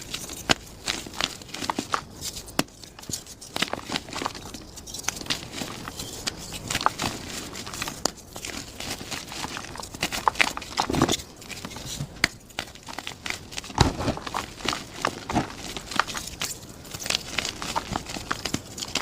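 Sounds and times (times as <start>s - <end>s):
chalk being crushed: 0.0s - 19.0s.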